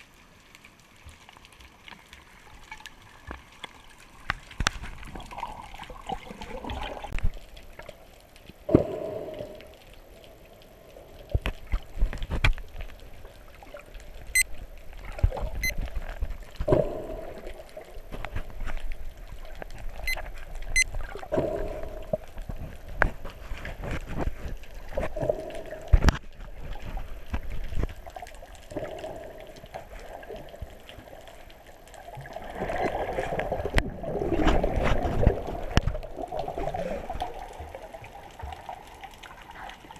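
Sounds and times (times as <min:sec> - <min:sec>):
water swishing and gurgling: 0:00.0 - 0:39.9.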